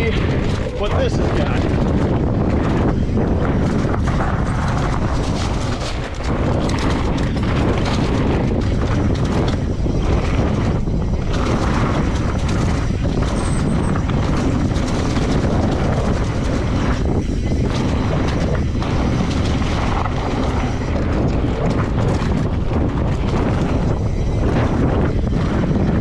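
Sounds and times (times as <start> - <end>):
knocks and rattles from bumps: 0.0 - 26.0
tyre rumble: 0.0 - 26.0
wind buffeting microphone: 0.0 - 26.0.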